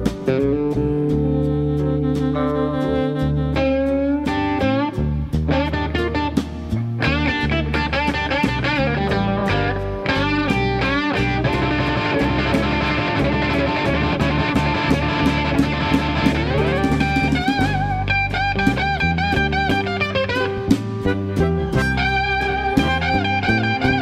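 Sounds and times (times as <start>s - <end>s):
acoustic guitar: 0.0s - 24.0s
drums: 0.0s - 24.0s
electric guitar blues solo: 0.0s - 24.0s.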